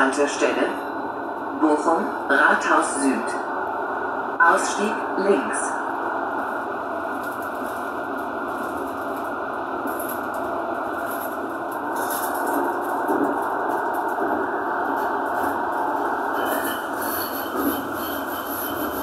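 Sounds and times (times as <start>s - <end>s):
tram wheels on rails: 0.0s - 19.0s.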